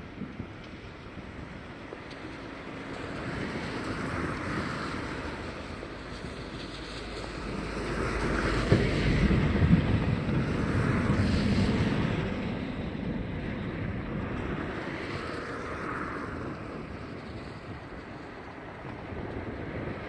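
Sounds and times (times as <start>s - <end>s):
wind noise on microphone: 0.0s - 20.0s
thunder rolling: 3.0s - 20.0s.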